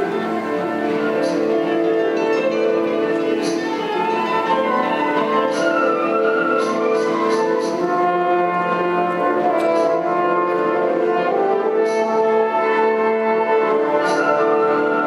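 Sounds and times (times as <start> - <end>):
orchestral music with held chords: 0.0 - 15.0.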